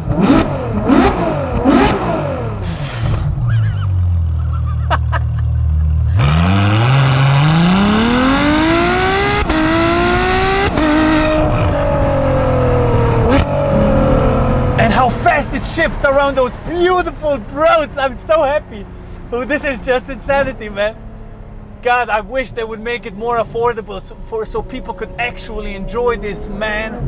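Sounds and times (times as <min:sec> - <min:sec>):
sports car engine revving: 0:00.0 - 0:27.0.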